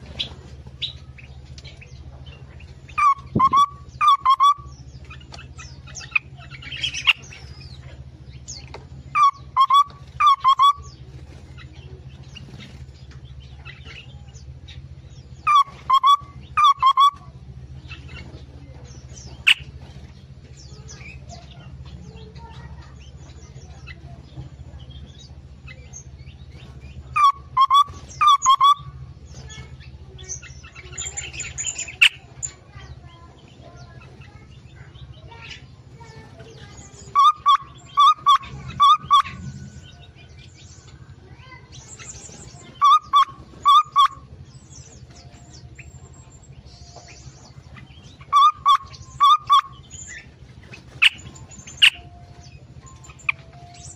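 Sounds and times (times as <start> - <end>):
low hum: 0.0 - 53.9
songbirds singing: 0.0 - 53.9.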